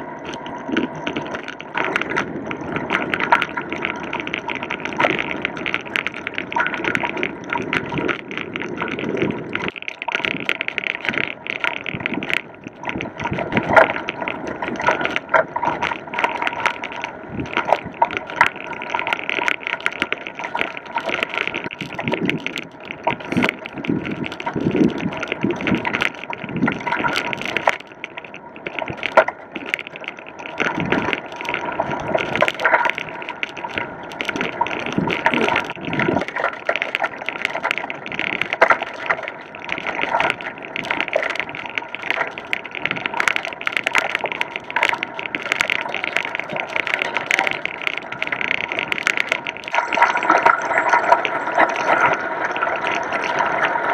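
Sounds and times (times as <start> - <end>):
bicycle tyres crunching gravel: 0.0 - 53.9.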